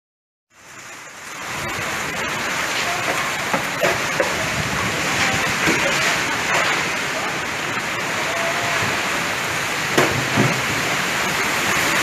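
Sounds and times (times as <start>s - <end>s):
heavy rain pouring: 0.5s - 12.0s.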